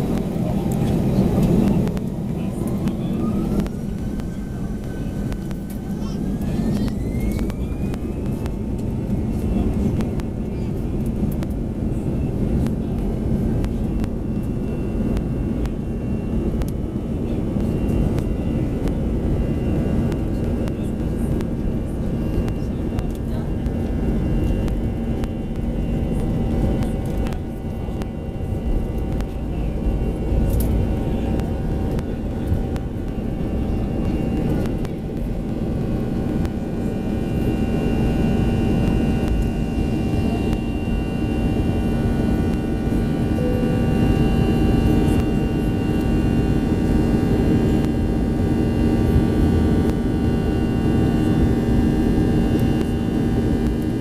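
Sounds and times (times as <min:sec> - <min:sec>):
deep rumble of takeoff roll: 0:00.0 - 0:54.0
jet engines droning with whine: 0:00.0 - 0:54.0.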